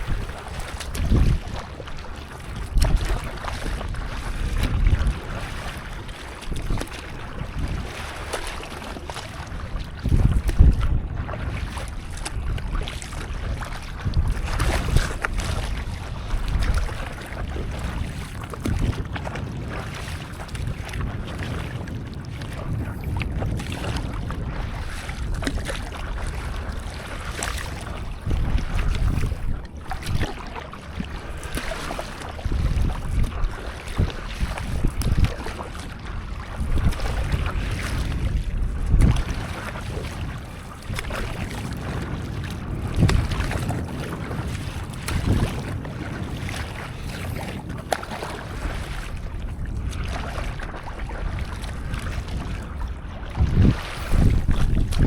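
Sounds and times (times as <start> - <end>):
water splashing and lapping: 0.0 - 55.0
wind buffeting the microphone: 0.0 - 55.0.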